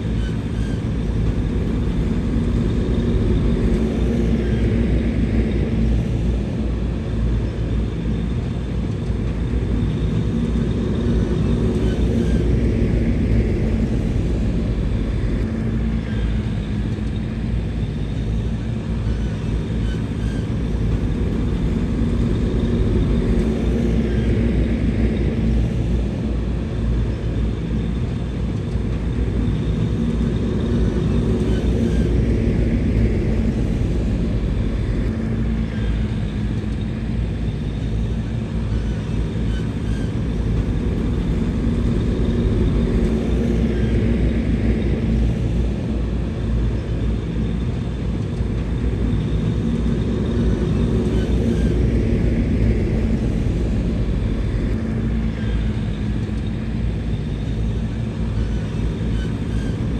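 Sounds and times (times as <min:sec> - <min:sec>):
bulldozer diesel engine: 0:00.0 - 0:08.4, 0:09.2 - 0:59.9.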